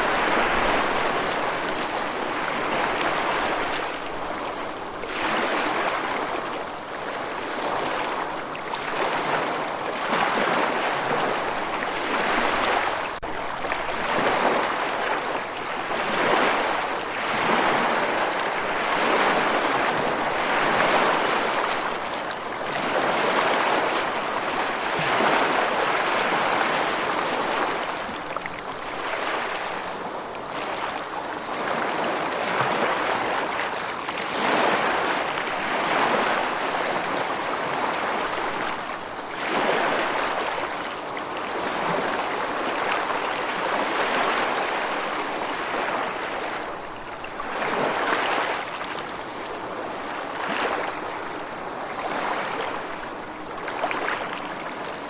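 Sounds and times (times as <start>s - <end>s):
rushing water: 0.0s - 55.0s.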